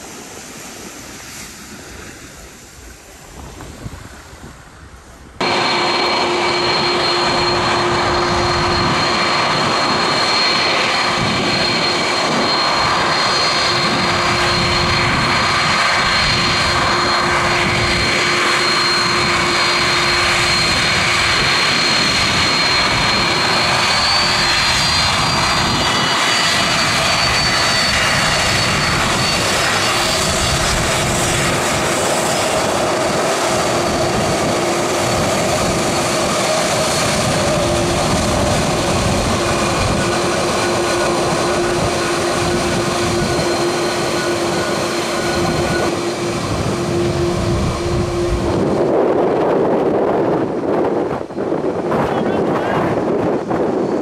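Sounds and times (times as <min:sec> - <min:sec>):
aircraft engines running: 0:00.0 - 0:54.0.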